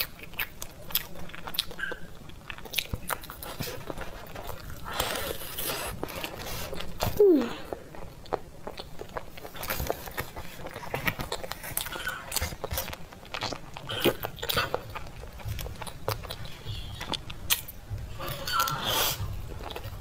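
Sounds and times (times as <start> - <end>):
wet chewing sounds: 0.0 - 20.0.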